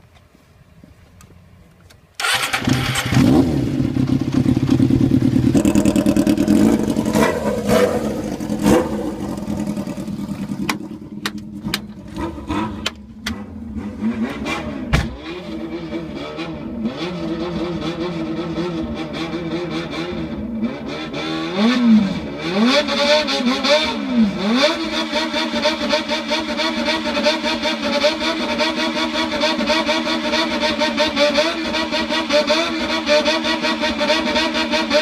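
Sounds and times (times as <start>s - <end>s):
motorcycle engine revving: 2.2s - 35.0s.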